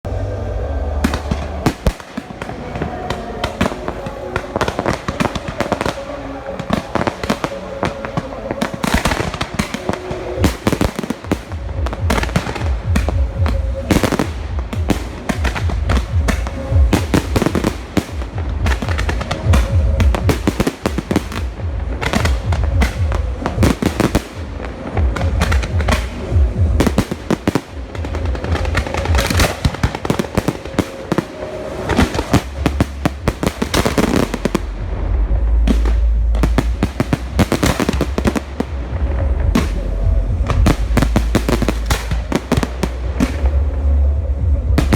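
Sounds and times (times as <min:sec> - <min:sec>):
fireworks bursting and crackling: 0:00.0 - 0:44.9
deep fireworks booms: 0:00.9 - 0:44.9.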